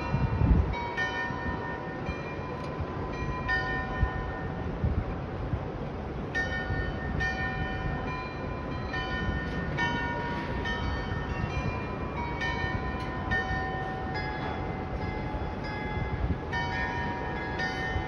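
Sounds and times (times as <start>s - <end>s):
tower bells playing a melody: 0.0s - 4.8s, 6.3s - 18.0s.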